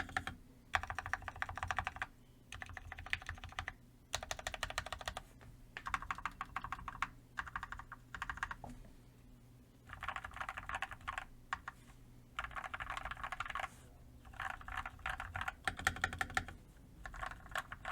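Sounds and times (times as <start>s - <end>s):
fast typing on mechanical keyboard: 0.0s - 5.2s, 5.8s - 8.6s, 9.9s - 11.8s, 12.4s - 17.9s.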